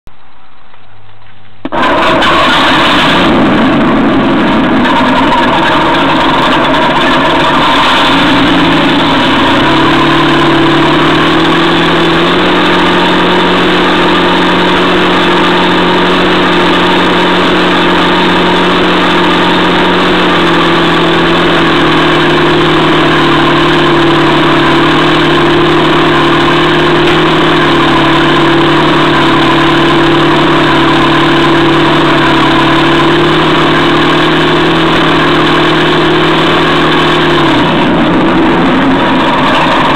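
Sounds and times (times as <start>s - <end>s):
model tank mechanical drone: 0.1s - 39.9s.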